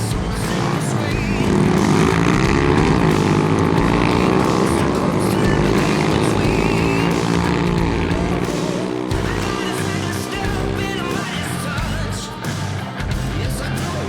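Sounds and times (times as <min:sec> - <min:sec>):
motorbike engines revving: 0:00.0 - 0:14.0.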